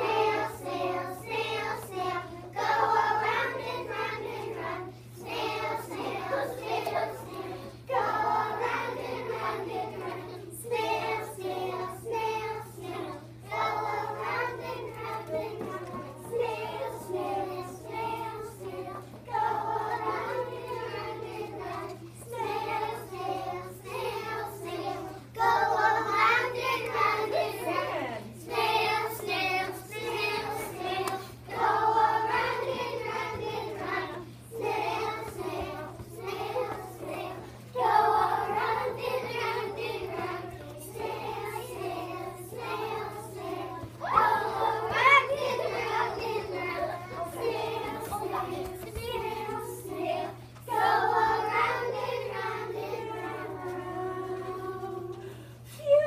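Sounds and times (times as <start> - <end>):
young children singing: 0.0 - 56.0.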